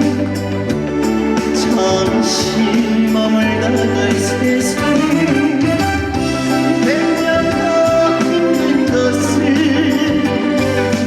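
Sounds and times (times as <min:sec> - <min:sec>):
person singing: 0:00.0 - 0:11.0
trot song accompaniment: 0:00.0 - 0:11.0.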